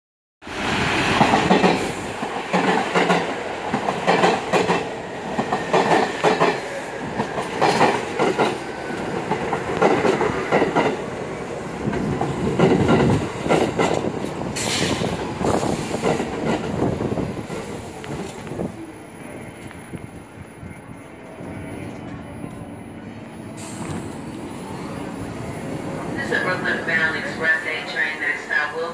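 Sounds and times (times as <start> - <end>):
subway train slowing to a stop: 0.4 - 28.9.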